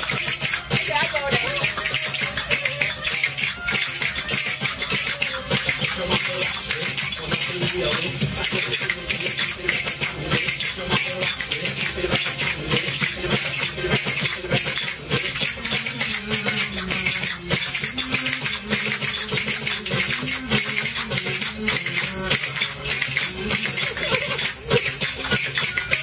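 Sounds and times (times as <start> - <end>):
dance music: 0.0 - 26.0
tambourine jingle: 0.0 - 26.0.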